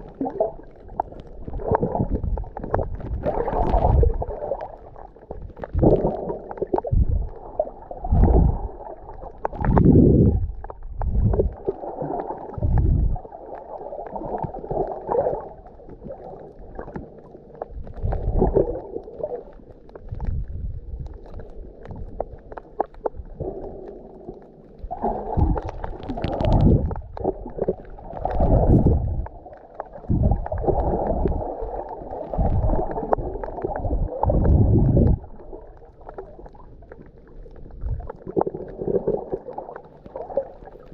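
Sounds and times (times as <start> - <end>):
muffled water sloshing and gurgling: 0.0 - 40.9.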